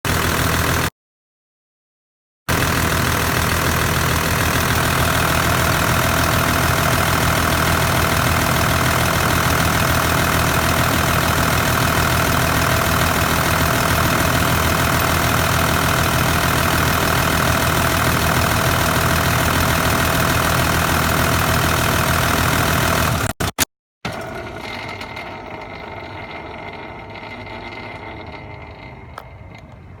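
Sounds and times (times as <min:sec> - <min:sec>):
engine running: 0:00.0 - 0:00.9, 0:02.5 - 0:30.0
turbocharger rattle: 0:00.1 - 0:00.9, 0:02.5 - 0:30.0.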